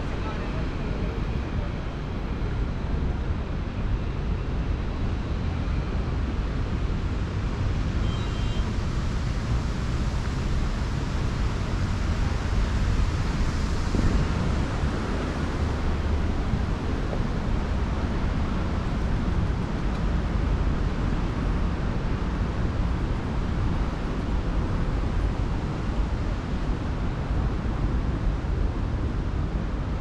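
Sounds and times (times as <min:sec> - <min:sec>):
traffic rumble: 0:00.0 - 0:30.0
wind: 0:00.0 - 0:30.0.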